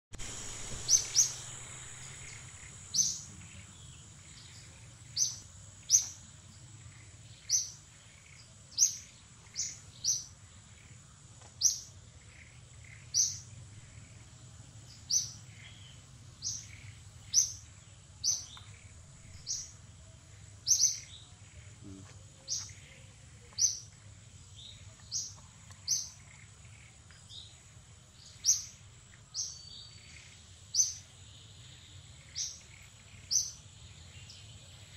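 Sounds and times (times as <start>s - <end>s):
steady high-pitched whine: 0.1s - 34.9s
bird chirping: 0.2s - 34.9s.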